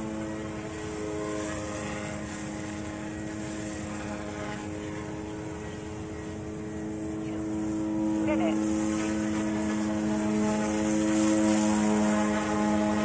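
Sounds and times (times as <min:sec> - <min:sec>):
helicopter motors whining: 0:00.0 - 0:13.0.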